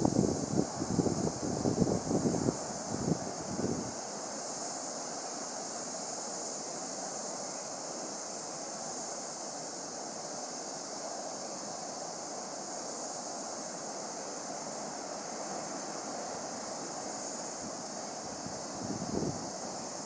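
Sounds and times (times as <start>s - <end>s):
constant high hiss: 0.0s - 20.0s
wind: 0.0s - 20.0s.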